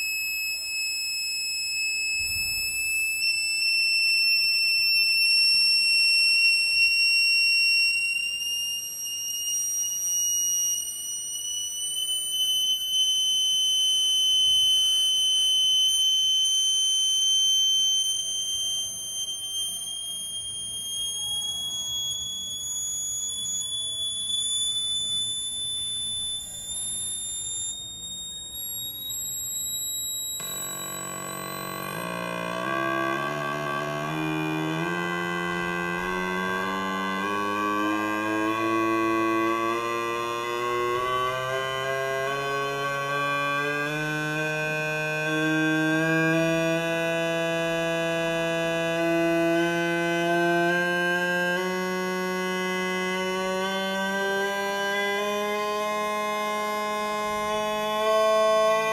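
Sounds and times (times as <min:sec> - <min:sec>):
shrill electronic tone rising: 0:00.0 - 0:58.9.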